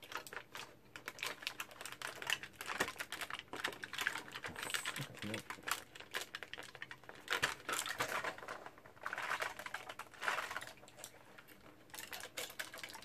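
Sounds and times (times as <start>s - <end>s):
cardboard and plastic crackling: 0.0s - 13.0s.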